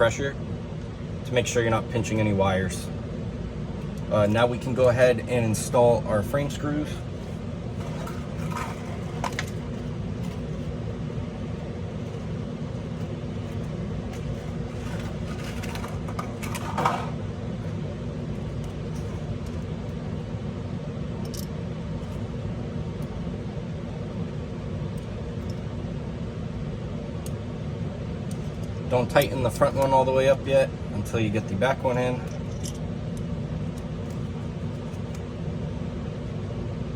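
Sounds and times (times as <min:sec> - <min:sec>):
low background hum: 0:00.0 - 0:36.9.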